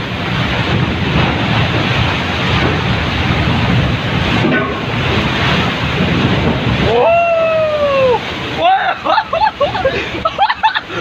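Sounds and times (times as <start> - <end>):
seawater rushing along a deck: 0.0 - 11.0.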